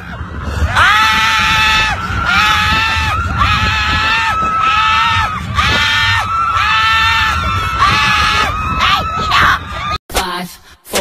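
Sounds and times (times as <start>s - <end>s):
high-pitched scream: 0.0s - 10.0s
low rumble: 0.0s - 10.0s
riders screaming: 0.0s - 10.0s.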